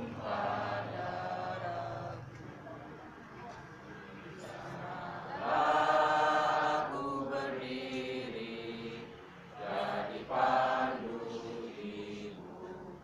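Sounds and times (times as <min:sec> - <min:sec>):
group singing in unison: 0:00.0 - 0:02.4, 0:04.4 - 0:13.0.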